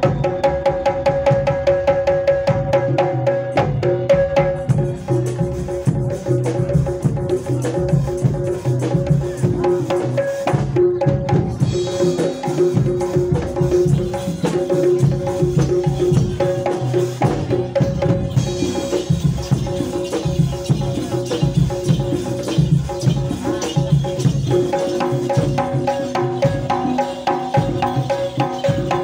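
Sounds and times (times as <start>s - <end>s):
drums beating: 0.0s - 29.0s.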